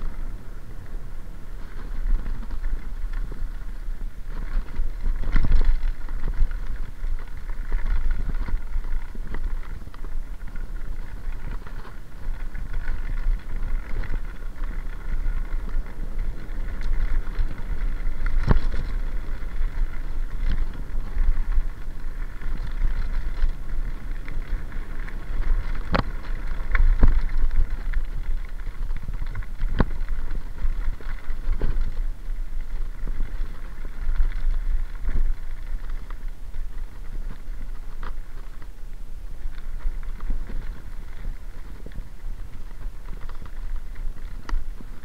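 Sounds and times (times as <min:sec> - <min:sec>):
bike knocking and rattling: 0:00.0 - 0:45.0
tyres rumbling on gravel: 0:00.0 - 0:45.0
wind on microphone: 0:00.0 - 0:45.0.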